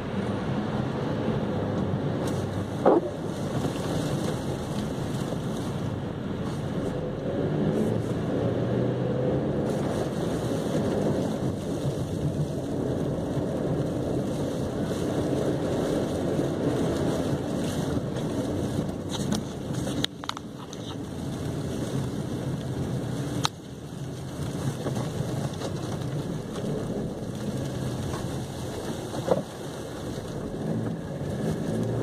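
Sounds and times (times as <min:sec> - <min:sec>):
car engine from inside cabin: 0:00.0 - 0:32.0
tyre noise on wet snowy road: 0:00.0 - 0:32.0.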